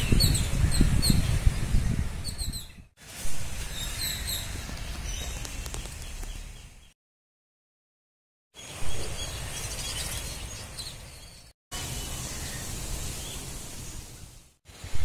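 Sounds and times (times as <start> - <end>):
small birds chirping: 0.0 - 2.9, 3.5 - 7.0, 8.6 - 14.4.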